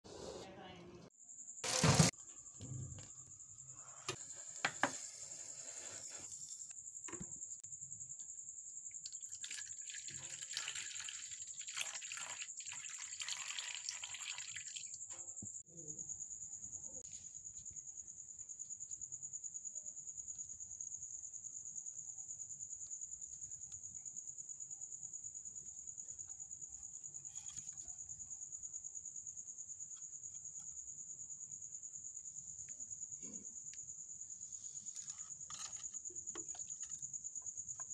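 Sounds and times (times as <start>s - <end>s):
high-pitched insect trill: 1.1s - 37.9s.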